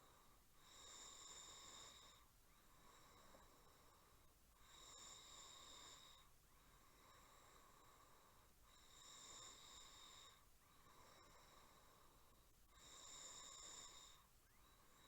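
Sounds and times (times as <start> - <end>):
quiet breathing: 0.0 - 15.0.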